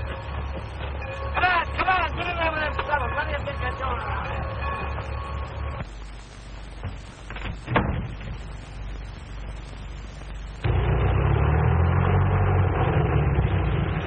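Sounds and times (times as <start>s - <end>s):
film soundtrack hiss: 0.0s - 14.0s
train rumbling: 0.0s - 14.0s.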